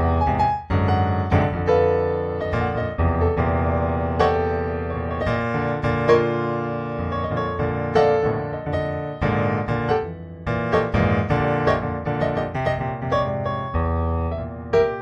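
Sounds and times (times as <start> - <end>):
piano piece: 0.0 - 15.0.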